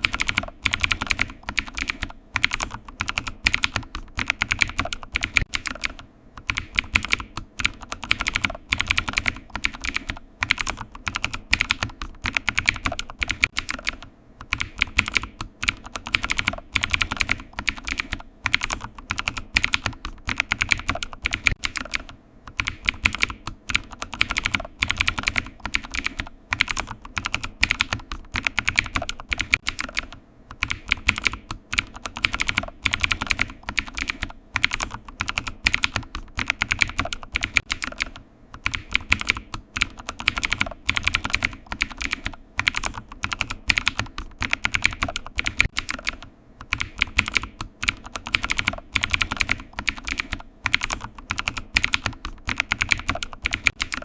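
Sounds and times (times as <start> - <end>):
keyboard typing: 0.0 - 54.0.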